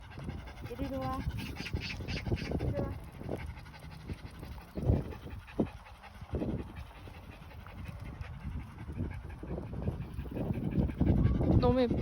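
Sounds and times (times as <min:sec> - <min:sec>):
dog panting rapidly: 0:00.0 - 0:12.0.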